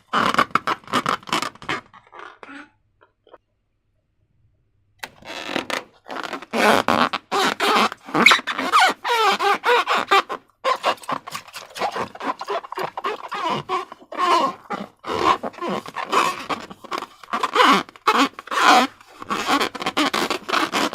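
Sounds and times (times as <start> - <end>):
slime balloon squelching: 0.0 - 2.7, 5.1 - 20.9.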